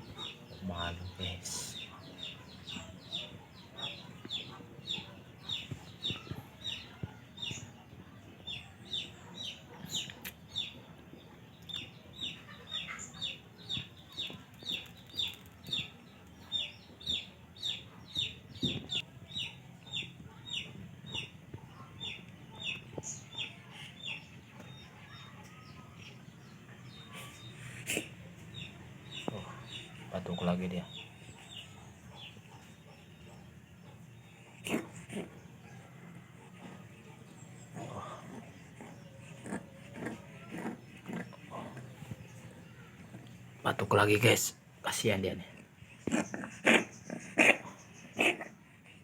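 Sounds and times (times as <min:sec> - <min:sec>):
chicks peeping: 0:00.0 - 0:44.4.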